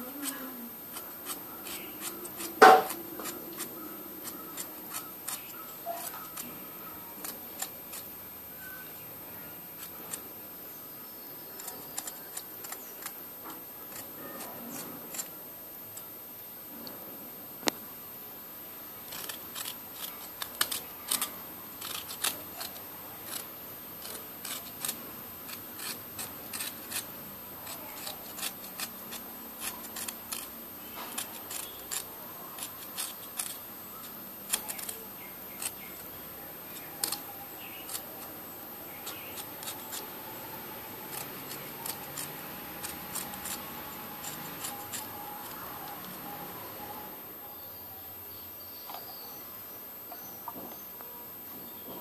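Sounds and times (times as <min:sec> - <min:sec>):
knife scraping potato skin: 0:00.0 - 0:16.1, 0:18.9 - 0:47.2.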